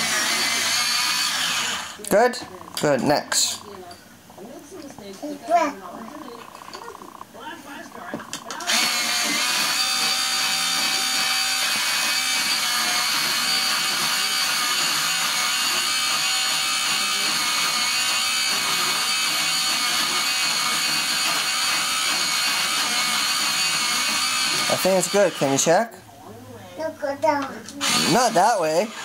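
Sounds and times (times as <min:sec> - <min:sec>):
electric pencil sharpener grinding: 0:00.0 - 0:03.9, 0:05.2 - 0:25.9, 0:27.8 - 0:29.0.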